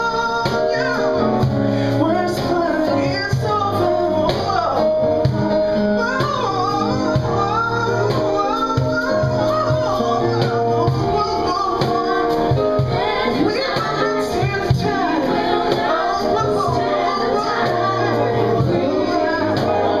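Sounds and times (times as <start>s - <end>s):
man and woman singing: 0.0s - 20.0s.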